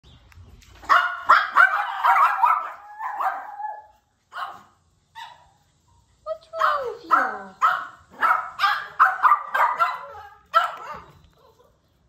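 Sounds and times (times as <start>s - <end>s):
dogs barking: 0.8s - 5.6s, 6.6s - 11.8s.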